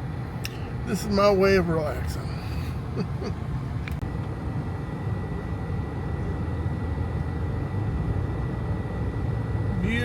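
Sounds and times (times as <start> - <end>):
car road and engine rumble: 0.0 - 10.0
faint high whine: 0.0 - 10.0.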